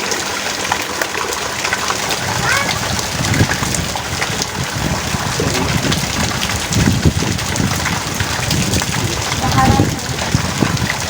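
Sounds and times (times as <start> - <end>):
heavy rain: 0.0 - 11.0
strong gusting wind: 1.2 - 11.0.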